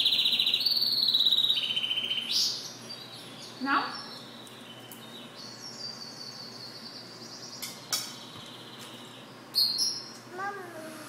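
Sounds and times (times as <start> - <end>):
finch singing: 0.0 - 10.2.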